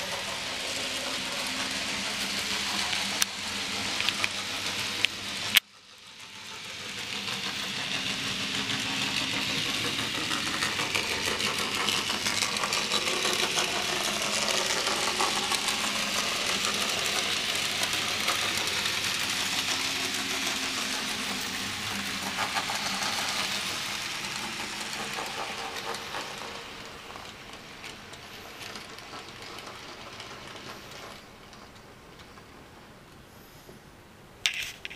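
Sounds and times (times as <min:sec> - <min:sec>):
model train whirring and ticking: 0:00.0 - 0:33.3.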